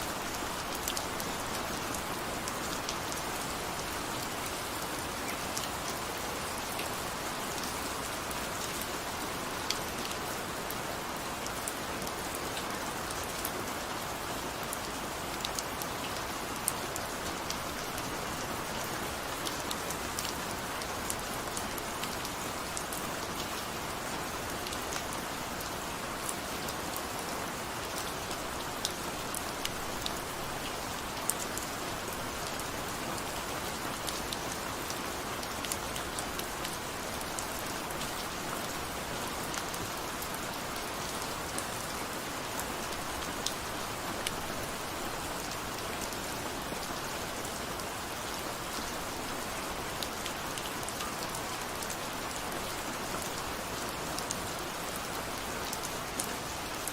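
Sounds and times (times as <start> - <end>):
raindrops ticking on a surface: 0.2 - 56.9.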